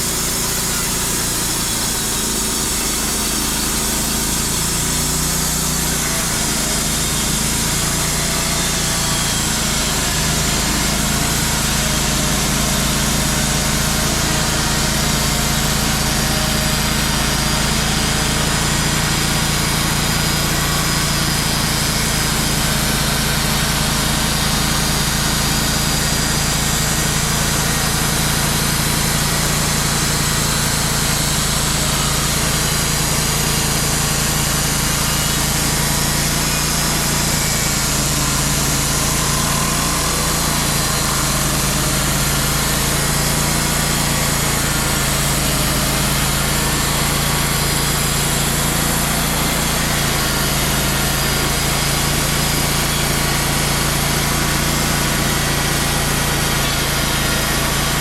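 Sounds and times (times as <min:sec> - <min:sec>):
band blade sawing log: 0:00.0 - 0:58.0
bandsaw sawmill engine under load: 0:00.0 - 0:58.0.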